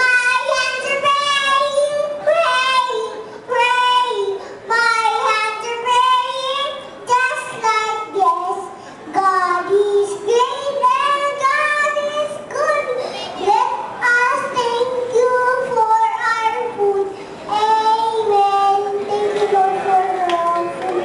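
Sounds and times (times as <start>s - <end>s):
girl singing into a microphone: 0.0s - 21.0s.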